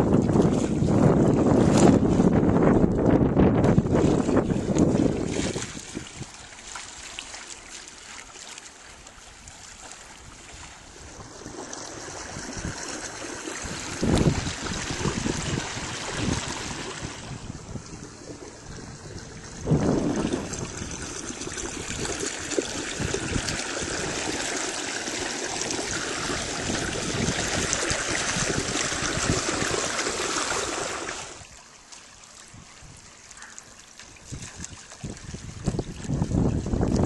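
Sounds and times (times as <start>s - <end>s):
wind noise on microphone: 0.0s - 6.5s, 9.4s - 31.6s, 32.5s - 33.5s, 34.1s - 37.0s
water rushing along canoe hull: 0.0s - 37.0s.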